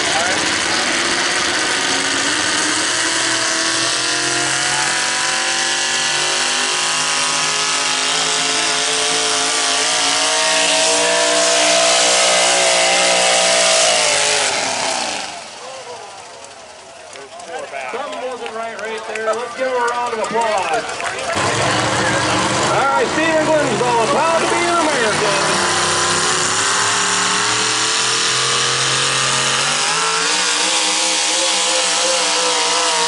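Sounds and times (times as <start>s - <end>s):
truck engine under heavy load: 0.0s - 33.0s.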